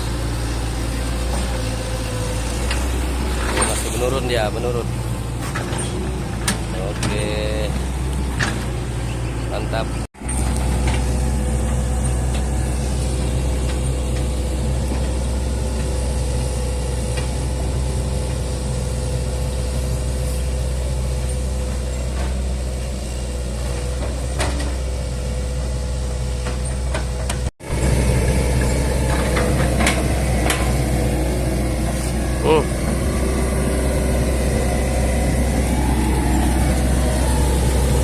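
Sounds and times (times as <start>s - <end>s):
diesel engine droning: 0.0s - 38.0s.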